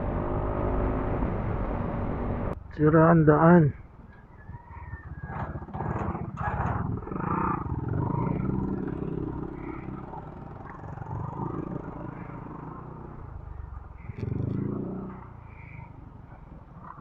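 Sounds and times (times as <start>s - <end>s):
scooter engine droning: 0.0s - 2.6s, 3.8s - 17.0s.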